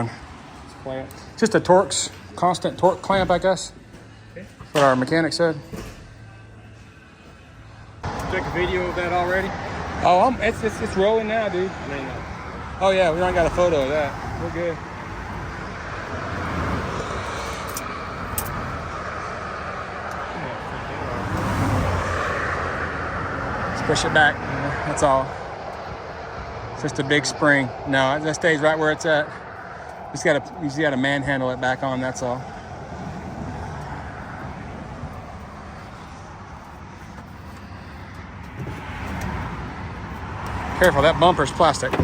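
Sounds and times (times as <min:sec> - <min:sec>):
highway traffic passing: 0:00.0 - 0:42.0.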